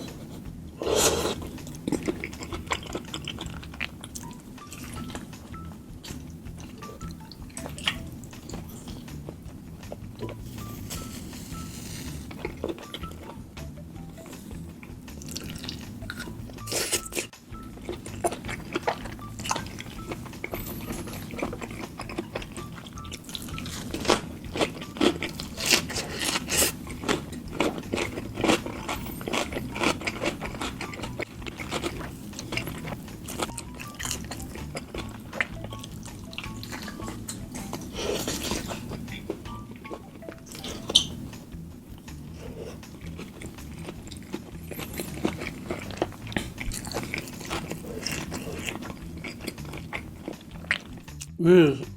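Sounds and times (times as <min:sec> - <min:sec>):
wet chewing and mouth clicks: 0:00.0 - 0:13.5, 0:14.2 - 0:51.4
faint background music: 0:00.0 - 0:51.9
food crunching: 0:00.8 - 0:13.4, 0:14.2 - 0:51.4.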